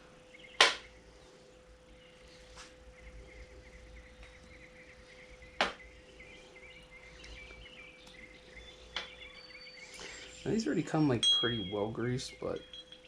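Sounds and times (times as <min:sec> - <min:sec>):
faint hum: 0:00.0 - 0:13.0
insects chirping: 0:00.0 - 0:13.0.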